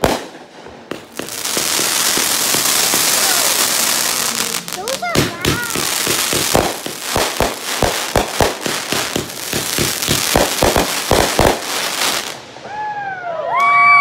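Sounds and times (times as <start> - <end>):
fireworks crackling hiss: 0.0 - 12.8
firework bangs: 0.0 - 12.9.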